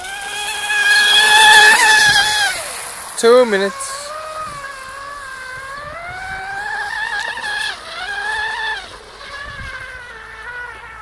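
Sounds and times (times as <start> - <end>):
model boat motor whining: 0.0 - 11.0.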